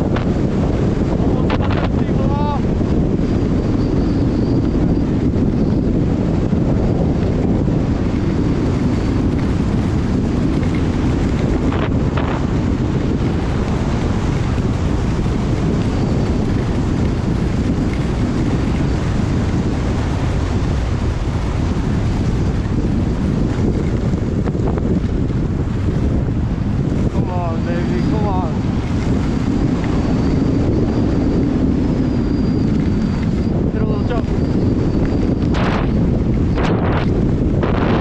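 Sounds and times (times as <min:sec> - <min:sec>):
heavy wind buffeting microphone: 0:00.0 - 0:38.0.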